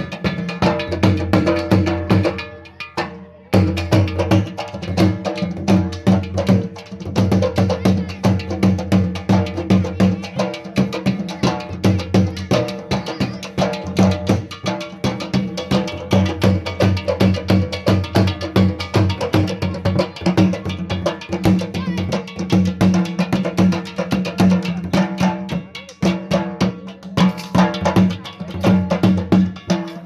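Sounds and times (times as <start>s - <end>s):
barrel drum beating fast: 0.0s - 30.0s.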